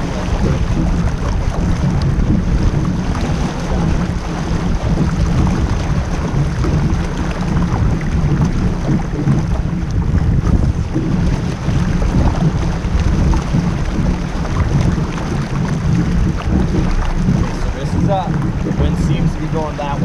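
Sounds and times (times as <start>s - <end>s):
water washing along hull: 0.0s - 20.0s
wind buffeting microphone: 0.0s - 20.0s.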